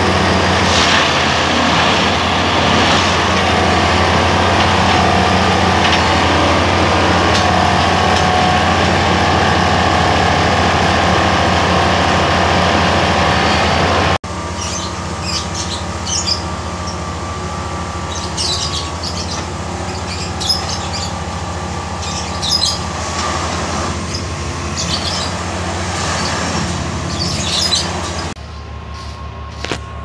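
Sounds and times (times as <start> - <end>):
track machine engine running: 0.0 - 30.0.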